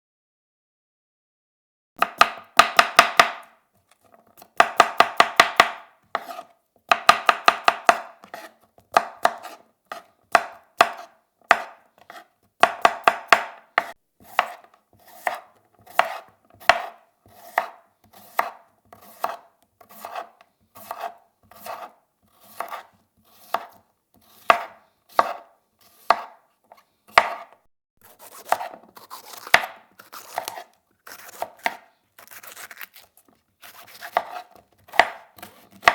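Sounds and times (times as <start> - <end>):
knife chopping on cutting board: 2.0 - 3.6, 4.4 - 35.9.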